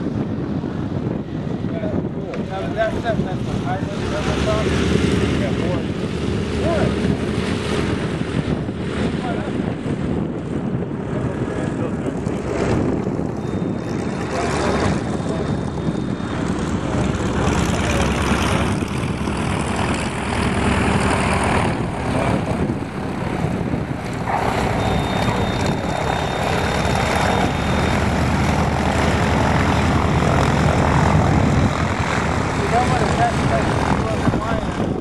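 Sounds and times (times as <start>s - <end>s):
propeller aircraft engines droning: 0.0s - 35.0s.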